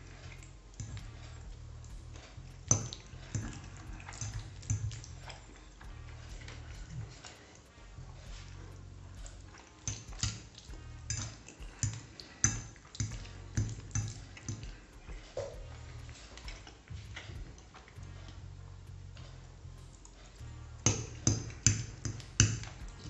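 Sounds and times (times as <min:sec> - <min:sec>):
faint background music: 0:00.0 - 0:23.0.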